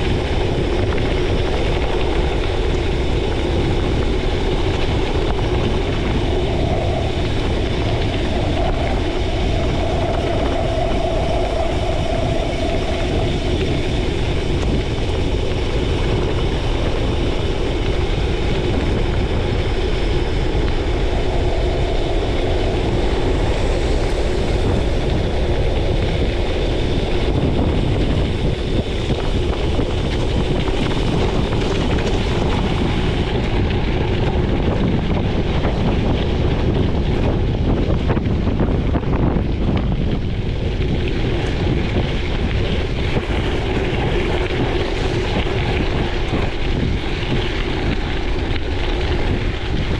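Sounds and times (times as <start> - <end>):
bike tyres rolling on gravel: 0.0 - 49.9.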